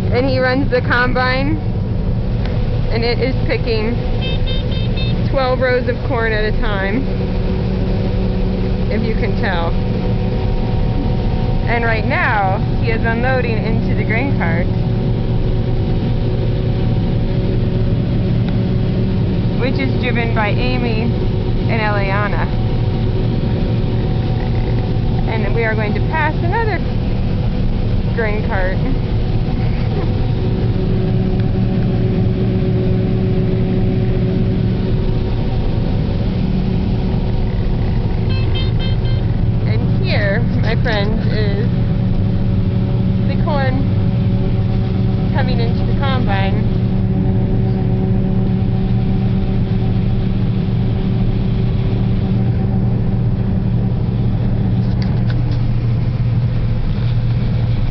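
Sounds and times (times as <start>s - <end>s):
farm vehicle engine droning: 0.0s - 57.9s.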